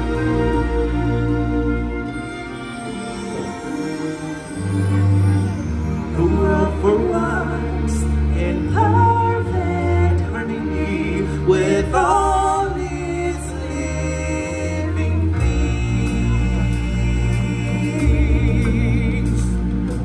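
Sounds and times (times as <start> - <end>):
sustained low bass notes: 0.0 - 20.0.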